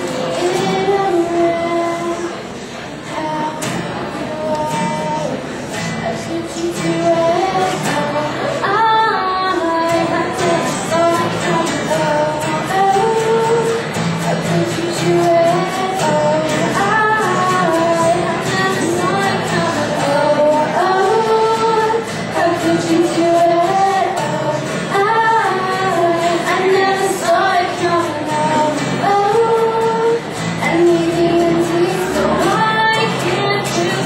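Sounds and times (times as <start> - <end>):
acoustic guitar: 0.0 - 34.0
woman singing: 0.0 - 34.0.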